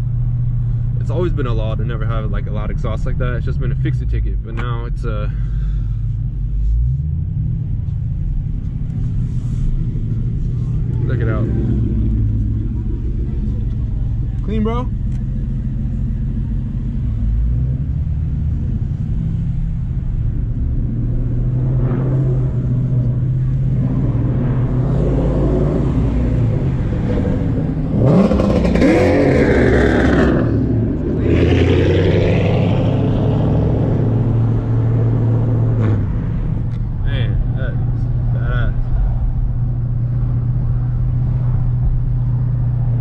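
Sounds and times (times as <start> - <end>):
loud car exhaust accelerating: 0.0 - 43.0
traffic drone: 0.0 - 43.0.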